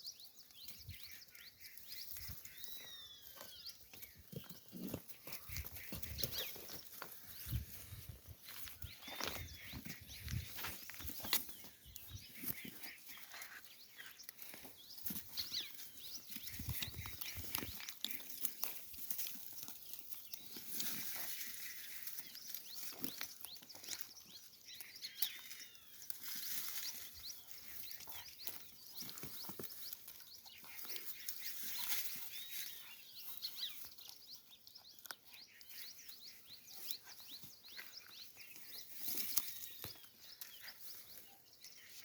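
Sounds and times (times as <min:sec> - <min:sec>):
bird chirps: 0:00.0 - 0:42.0.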